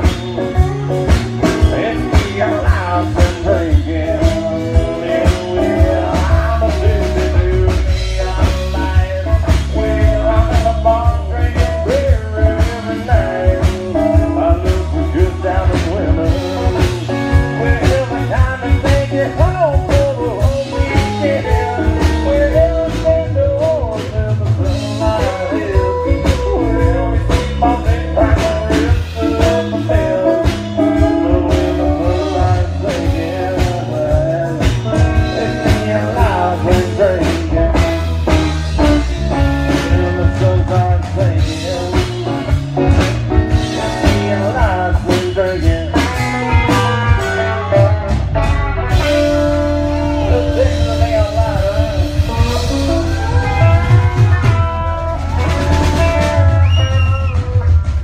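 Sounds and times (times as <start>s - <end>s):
bass and drum beat: 0.0s - 58.0s
electric guitars: 0.0s - 58.0s.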